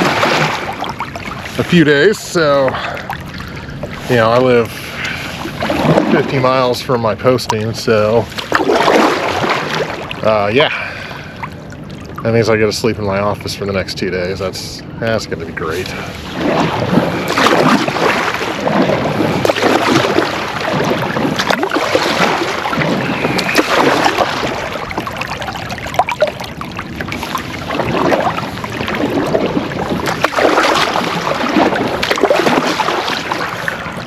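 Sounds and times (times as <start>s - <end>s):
paddle splashing in water: 0.0s - 6.7s, 7.5s - 10.3s, 15.7s - 34.0s
water noise: 0.0s - 34.0s.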